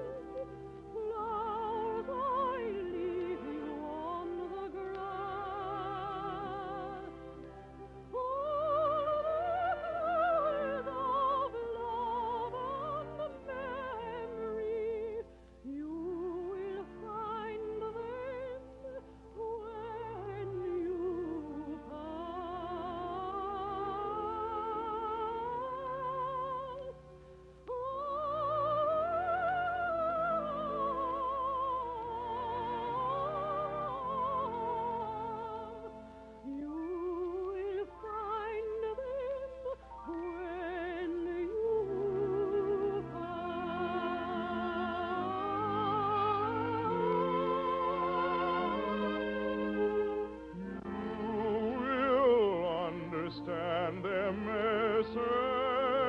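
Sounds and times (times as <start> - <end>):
operatic singing: 0.0 - 7.3, 8.1 - 27.0, 27.6 - 56.0
instrumental accompaniment: 0.0 - 56.0.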